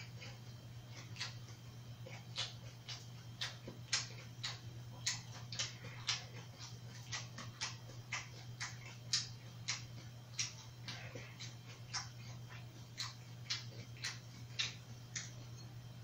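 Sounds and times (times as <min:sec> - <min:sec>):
chewing mouth sounds: 0:00.0 - 0:15.7
steady low hum: 0:00.0 - 0:16.0
sharp wet mouth clicks: 0:02.2 - 0:15.4.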